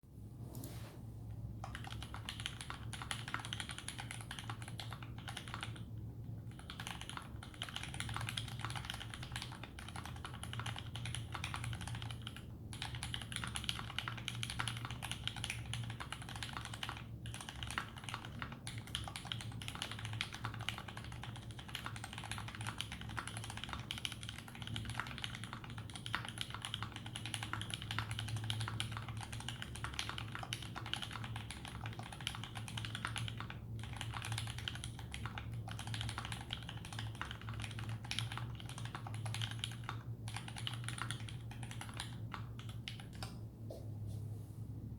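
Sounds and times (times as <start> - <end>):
steady low hum: 0.0 - 44.9
mechanical keyboard typing: 1.6 - 43.3.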